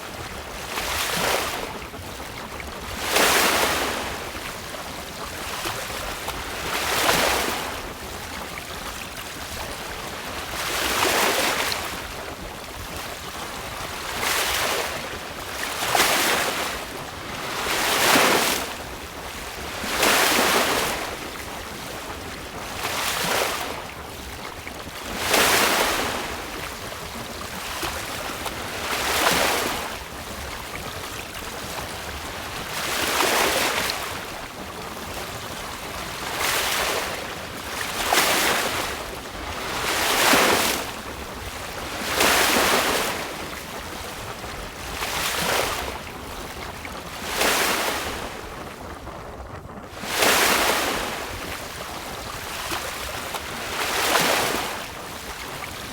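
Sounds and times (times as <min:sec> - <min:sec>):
waves washing against boat hull: 0:00.0 - 0:55.9
wind on microphone: 0:00.0 - 0:55.9.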